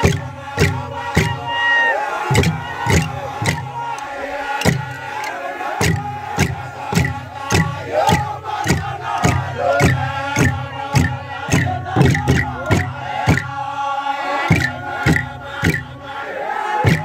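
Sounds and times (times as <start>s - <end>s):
men chanting together: 0.0s - 17.0s
wooden drum beats: 0.0s - 17.0s.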